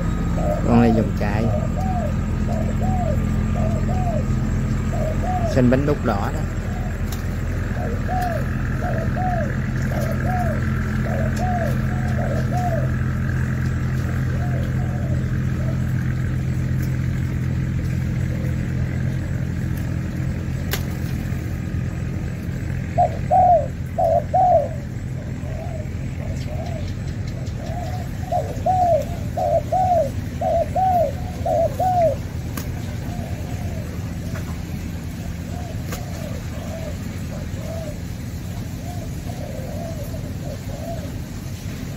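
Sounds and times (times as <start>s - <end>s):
doves cooing: 0.0s - 41.9s
steady low hum: 0.0s - 41.9s.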